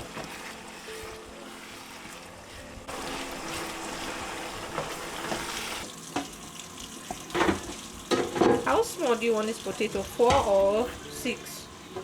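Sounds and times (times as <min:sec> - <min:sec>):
filling sizzling in a pan: 0:00.0 - 0:12.0.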